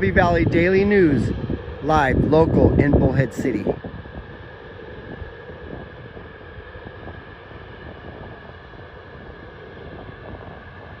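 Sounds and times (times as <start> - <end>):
engine drone: 0.0 - 11.0
high whine: 0.0 - 11.0
wind rumbling on microphone: 0.0 - 11.0.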